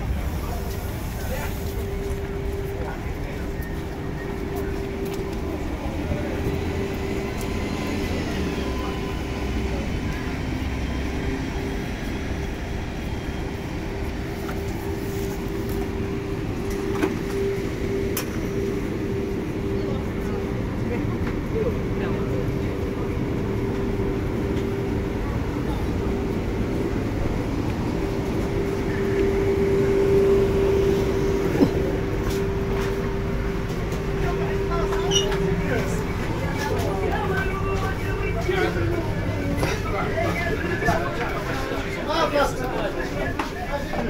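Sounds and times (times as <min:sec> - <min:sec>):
electric train humming: 0:00.0 - 0:44.0.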